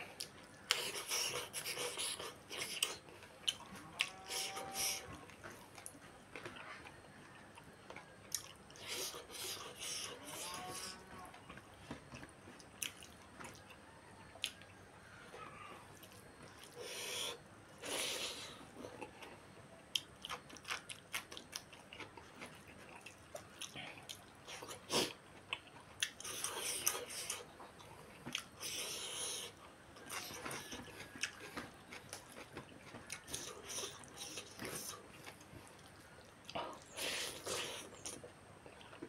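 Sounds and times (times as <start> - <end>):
person chewing and lip smacking: 0.0 - 39.0.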